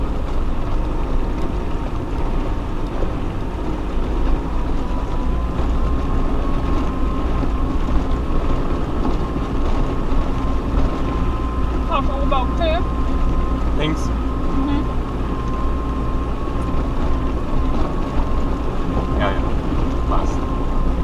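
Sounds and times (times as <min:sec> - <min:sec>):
vehicle low rumble: 0:00.0 - 0:21.0.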